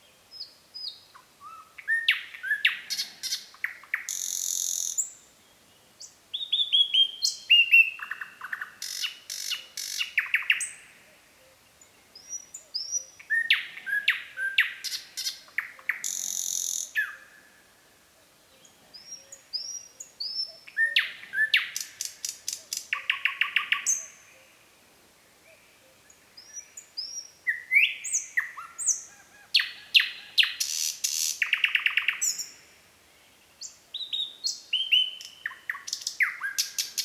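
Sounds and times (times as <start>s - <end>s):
nightingale singing: 0.0s - 17.4s, 18.5s - 24.6s, 25.4s - 37.0s.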